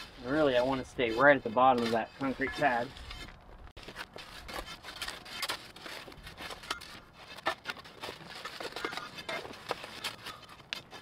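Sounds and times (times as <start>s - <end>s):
concrete mix scraping and crunching: 0.0s - 11.0s.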